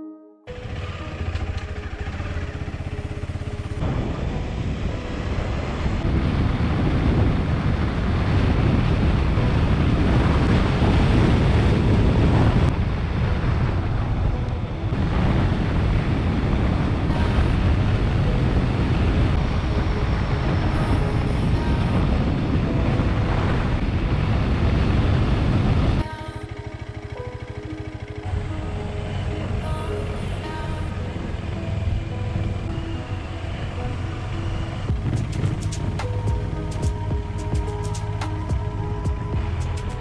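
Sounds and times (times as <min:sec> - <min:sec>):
motorcycle engine running: 0:00.5 - 0:40.0
wind rush on microphone: 0:00.7 - 0:40.0.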